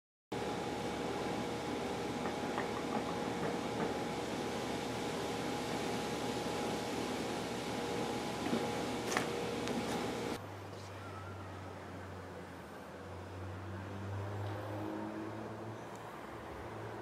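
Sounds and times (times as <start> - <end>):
mechanical hum: 0.3 - 17.0.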